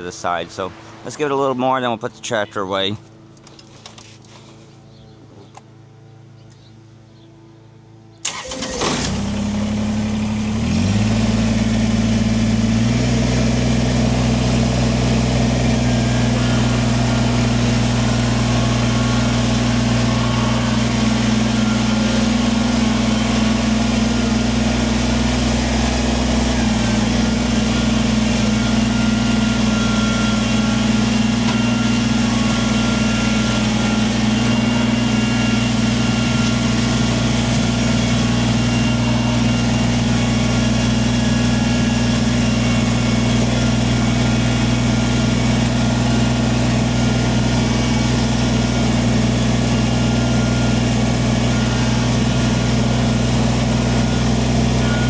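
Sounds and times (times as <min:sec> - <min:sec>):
diesel tractor engine starting: 0:08.2 - 0:55.0.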